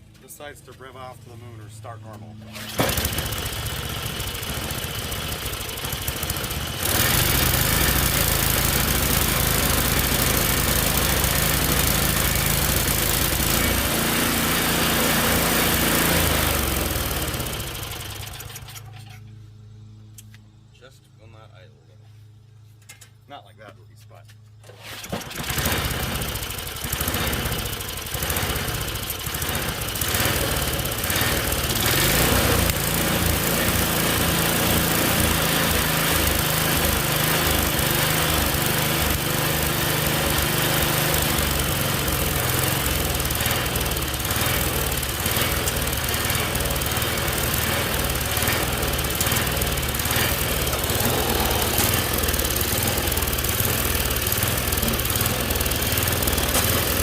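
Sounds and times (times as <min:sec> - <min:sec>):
small engine running: 0:00.0 - 0:20.8, 0:24.7 - 0:57.0.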